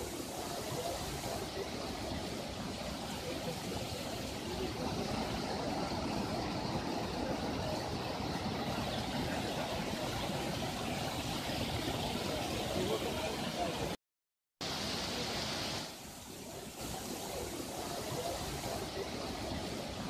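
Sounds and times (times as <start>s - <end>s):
floodwater rushing over rocks: 0.0s - 14.0s, 14.6s - 20.0s.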